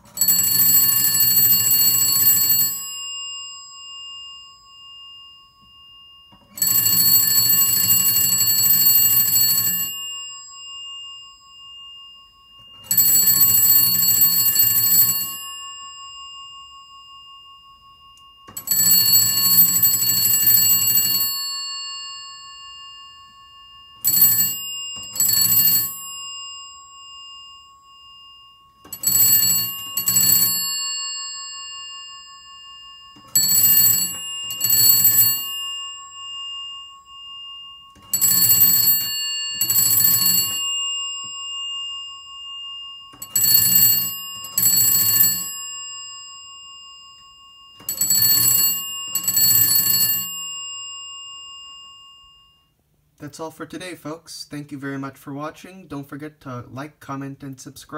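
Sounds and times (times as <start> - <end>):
rotary telephone bell ringing: 0.0 - 52.7.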